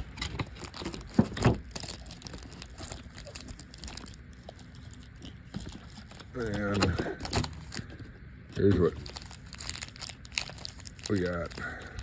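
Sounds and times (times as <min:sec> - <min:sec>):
hands handling packaging: 0:00.0 - 0:12.0.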